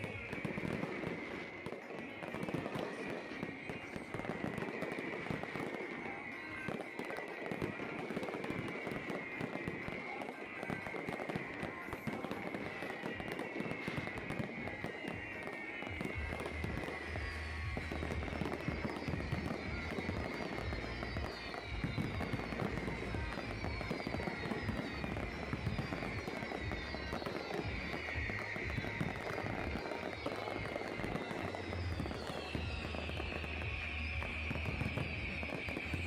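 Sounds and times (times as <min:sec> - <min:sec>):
fireworks crackling: 0:00.0 - 0:36.0.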